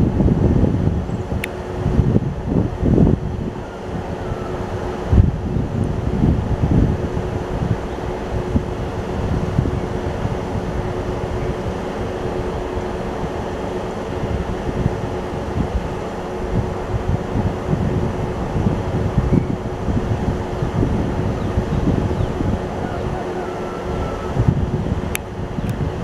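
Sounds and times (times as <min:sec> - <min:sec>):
electric locomotive humming: 0:00.0 - 0:26.0
low train rumble: 0:00.0 - 0:26.0
wind buffeting microphone: 0:00.0 - 0:26.0.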